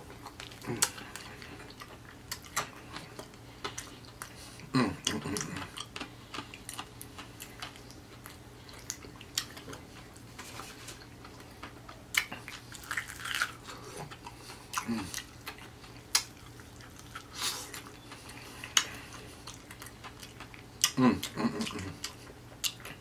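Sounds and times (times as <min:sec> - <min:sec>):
chewing and crunching fried chicken: 0:00.0 - 0:23.0.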